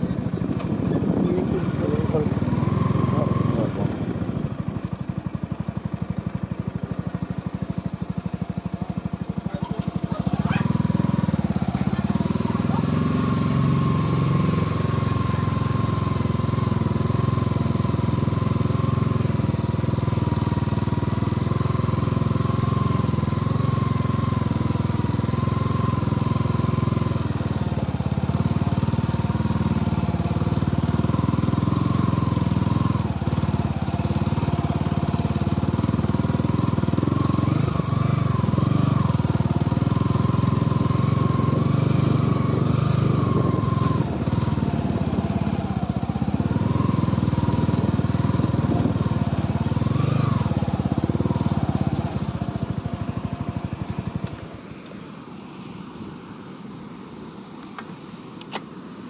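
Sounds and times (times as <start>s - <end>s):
motorcycle engine running: 0.0s - 55.3s.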